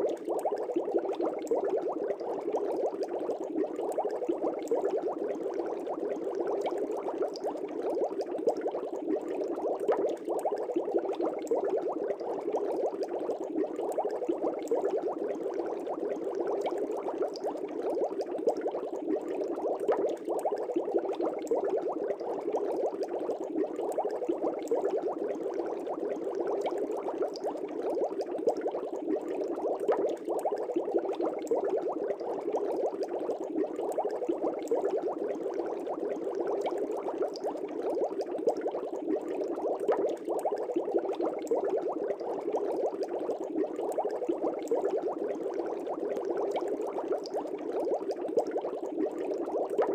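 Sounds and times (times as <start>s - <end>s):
aquarium air bubbling: 0.0s - 49.9s.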